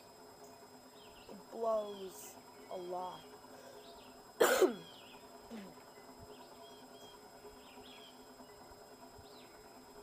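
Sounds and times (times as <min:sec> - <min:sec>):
ceiling fan motor humming: 0:00.0 - 0:10.0
small birds chirping: 0:00.2 - 0:10.0.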